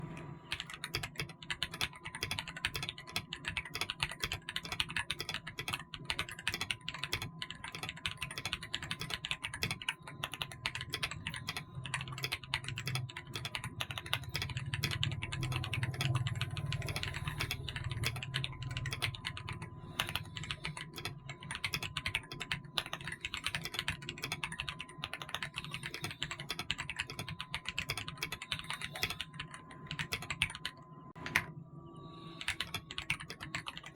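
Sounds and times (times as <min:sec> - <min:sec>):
typing on mechanical keyboard: 0:00.2 - 0:31.5, 0:32.4 - 0:33.9.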